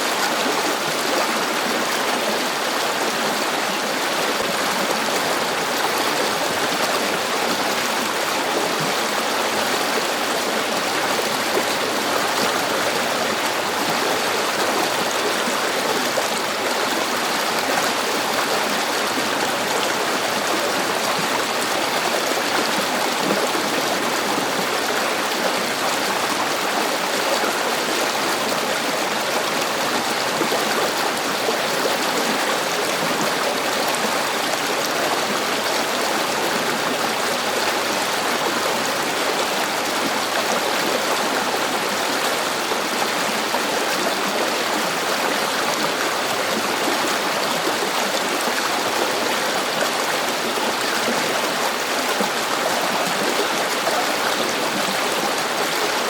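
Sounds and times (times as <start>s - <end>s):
river water rushing and babbling: 0.0s - 56.0s.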